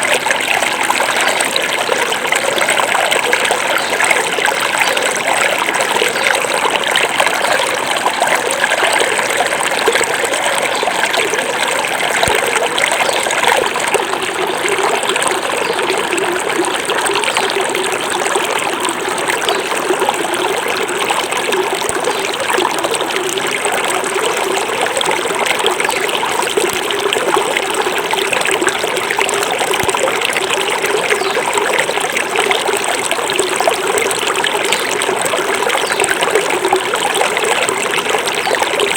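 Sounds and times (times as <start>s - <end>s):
river babbling over rocks: 0.0s - 38.9s.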